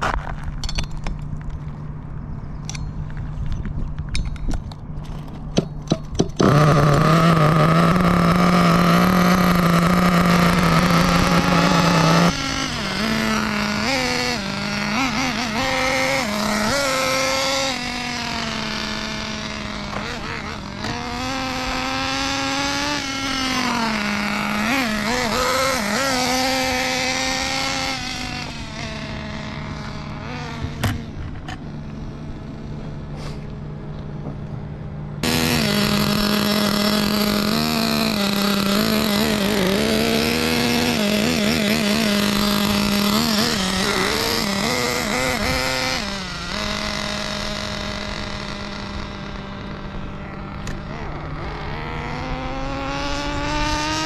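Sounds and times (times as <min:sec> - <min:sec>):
small nitro engine revving: 0:06.3 - 0:54.0.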